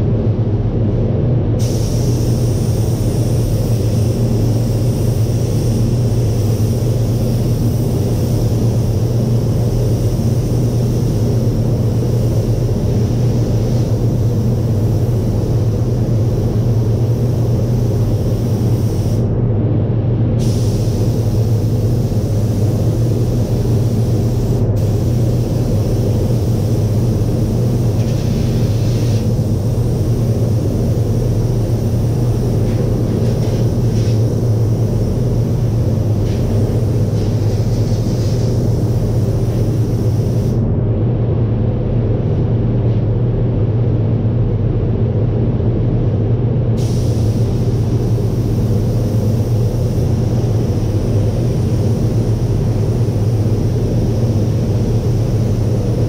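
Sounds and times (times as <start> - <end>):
ventilation fans humming: 0.0 - 56.0.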